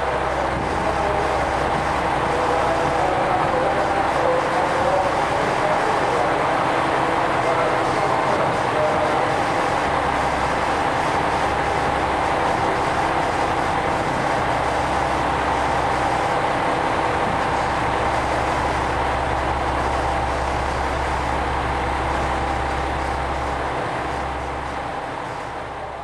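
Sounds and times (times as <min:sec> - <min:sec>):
diesel engine idling with whine: 0:00.0 - 0:26.0.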